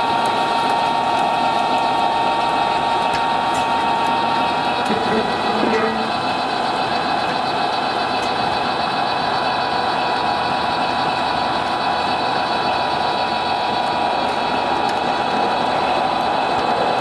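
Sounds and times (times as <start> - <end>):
model train whine: 0.0 - 17.0
train rolling noise: 0.0 - 17.0.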